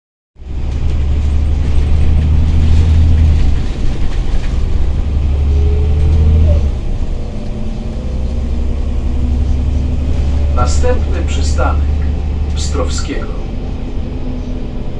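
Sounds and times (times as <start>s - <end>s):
bus engine droning: 0.4s - 14.9s.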